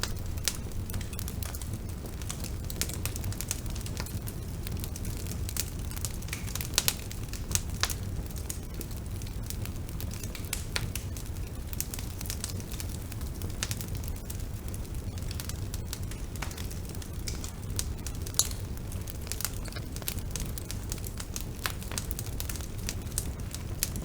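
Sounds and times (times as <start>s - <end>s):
bonfire flames rumbling: 0.0s - 24.0s
fire crackling and popping: 0.0s - 24.0s.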